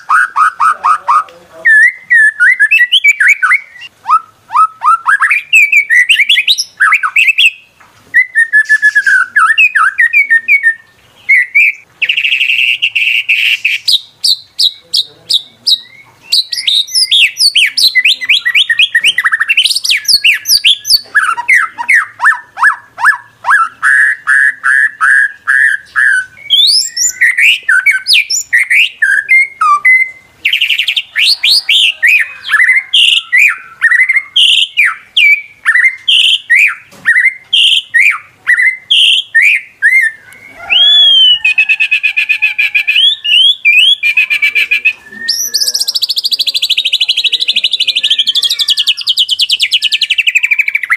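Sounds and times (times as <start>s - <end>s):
songbird singing: 0.0s - 50.9s.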